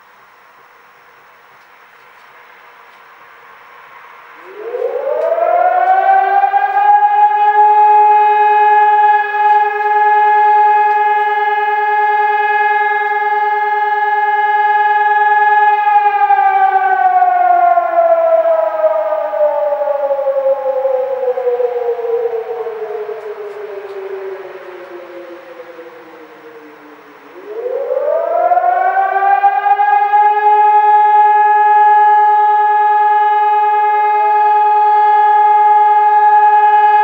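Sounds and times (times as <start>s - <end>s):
warning siren: 0.6s - 37.0s.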